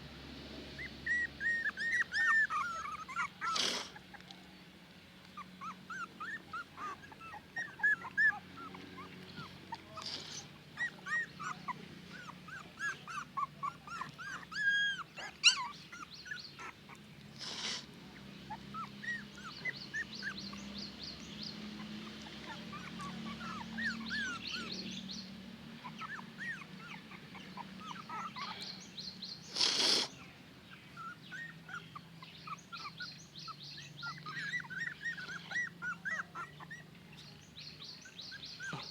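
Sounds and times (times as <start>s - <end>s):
puppies whimpering and squeaking: 0.8s - 4.4s, 5.4s - 17.8s, 18.4s - 38.9s.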